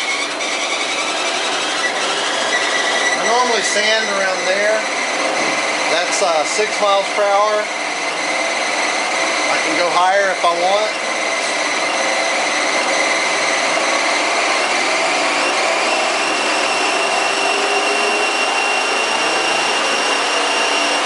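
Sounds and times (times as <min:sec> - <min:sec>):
treadmill motor whirring: 0:00.0 - 0:21.0.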